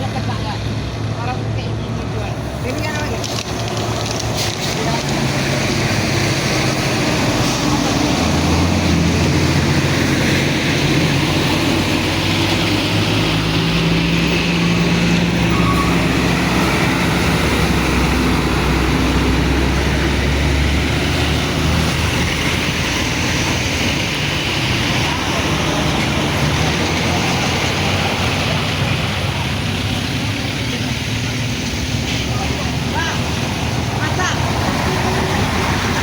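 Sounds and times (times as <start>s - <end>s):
large vehicle engine humming: 0.0s - 36.0s
road noise: 0.0s - 36.0s.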